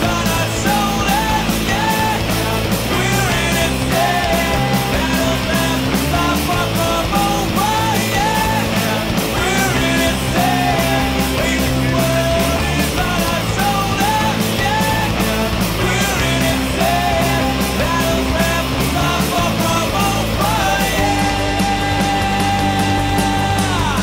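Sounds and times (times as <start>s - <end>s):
rock music with singing: 0.0s - 24.0s.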